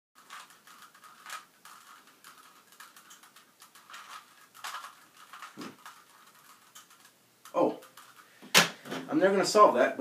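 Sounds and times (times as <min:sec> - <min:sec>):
puzzle cube plastic clicking: 0:00.2 - 0:08.2.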